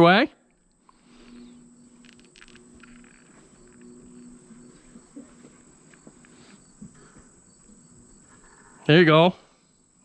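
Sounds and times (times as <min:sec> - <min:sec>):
crickets trilling: 0:00.0 - 0:10.0
faint low hum: 0:00.0 - 0:10.0.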